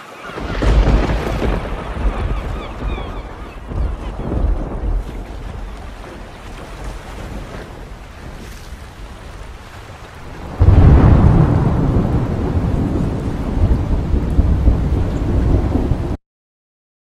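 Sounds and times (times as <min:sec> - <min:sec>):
wind and rain: 0:00.0 - 0:16.2
thunder crack and rumble: 0:00.2 - 0:16.2.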